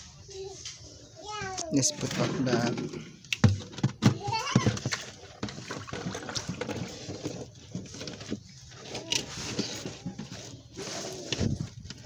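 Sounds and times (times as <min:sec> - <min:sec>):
plastic tub and net rustling: 0:00.3 - 0:12.0.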